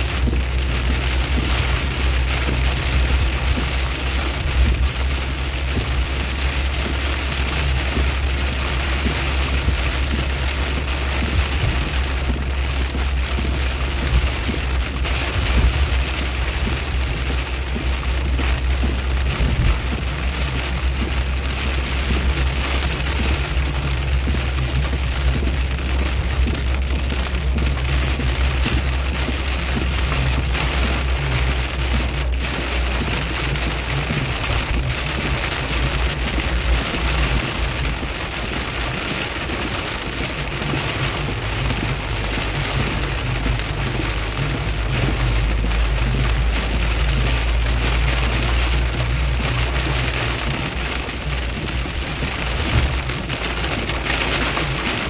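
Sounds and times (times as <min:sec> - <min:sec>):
engine and tyres rumbling: 0:00.0 - 0:55.0
rain pattering on car: 0:00.0 - 0:55.0.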